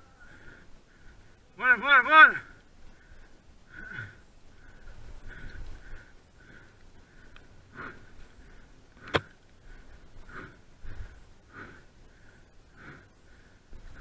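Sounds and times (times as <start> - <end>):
hard rhythmic breathing: 0.0 - 1.6, 2.3 - 14.0.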